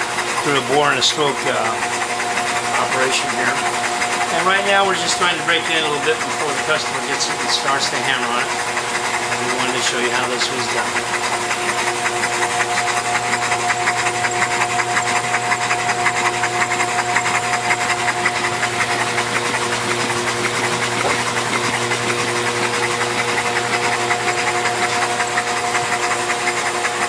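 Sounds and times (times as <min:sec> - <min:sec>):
engine running with valve ticking: 0:00.0 - 0:27.0
steady engine whine: 0:00.0 - 0:27.0.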